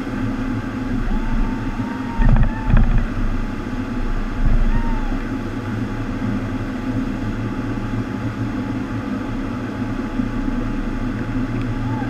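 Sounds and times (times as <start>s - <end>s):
pump hum: 0.0s - 12.0s
water rushing over surface: 0.0s - 12.0s.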